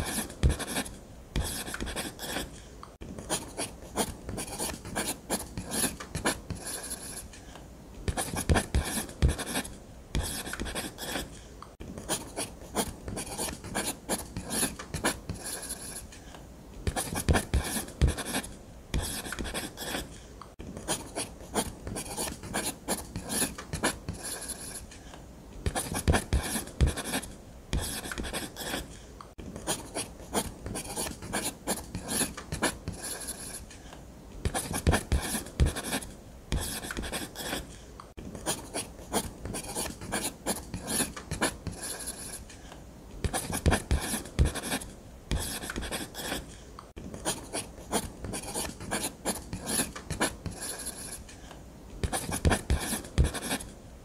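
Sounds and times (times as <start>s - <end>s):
ballpoint pen scratching on paper: 0.0s - 2.6s, 3.2s - 7.4s, 8.1s - 11.4s, 12.0s - 16.2s, 16.8s - 20.2s, 20.8s - 25.0s, 25.6s - 29.0s, 29.6s - 33.8s, 34.4s - 37.8s, 38.4s - 42.5s, 43.2s - 51.3s, 52.0s - 53.8s.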